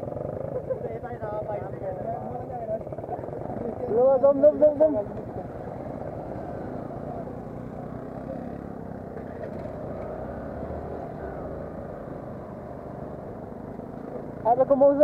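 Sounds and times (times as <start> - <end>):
motorcycle engine running: 0.0 - 15.0
wind: 0.0 - 15.0.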